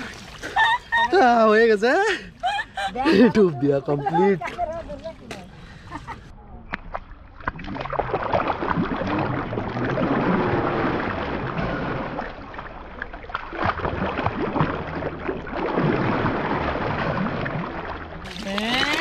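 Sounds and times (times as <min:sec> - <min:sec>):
water splashing: 0:00.0 - 0:19.0.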